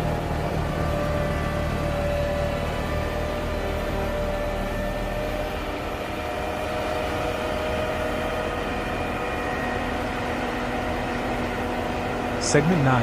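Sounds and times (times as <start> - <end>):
snowplow engine running: 0.0 - 13.0.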